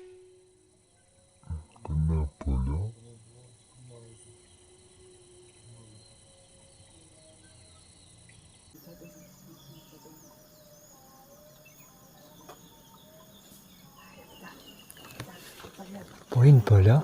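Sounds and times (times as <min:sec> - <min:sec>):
insects buzzing: 0:00.0 - 0:17.0
small birds chirping: 0:00.8 - 0:17.0.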